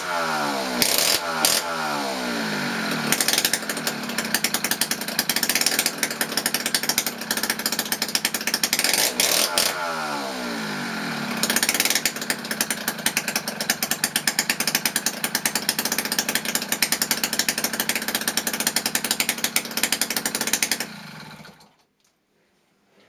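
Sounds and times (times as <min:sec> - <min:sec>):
scooter engine running: 0:00.0 - 0:21.8.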